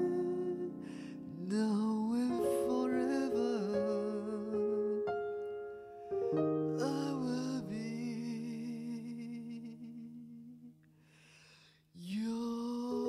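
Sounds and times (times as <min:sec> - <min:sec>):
person singing with vibrato: 0:00.0 - 0:05.5, 0:06.1 - 0:10.7, 0:12.0 - 0:13.0.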